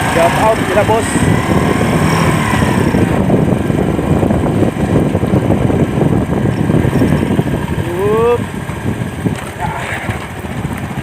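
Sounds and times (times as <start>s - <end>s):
vehicle engine running: 0.0s - 11.0s
wind on microphone: 0.0s - 11.0s.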